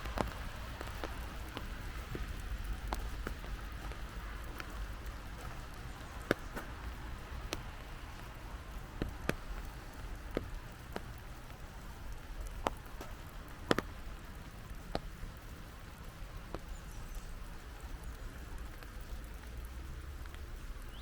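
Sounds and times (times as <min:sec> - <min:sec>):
large raindrops ticking: 0:00.0 - 0:21.0
light rain hissing: 0:00.0 - 0:21.0.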